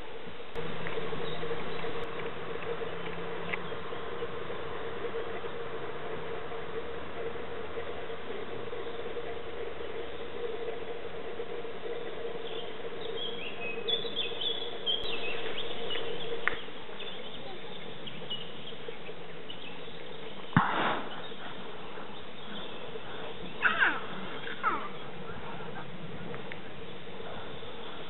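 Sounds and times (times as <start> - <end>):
faint hum: 0.0 - 28.0
steady hiss: 0.0 - 28.0
small birds chirping: 0.6 - 28.0.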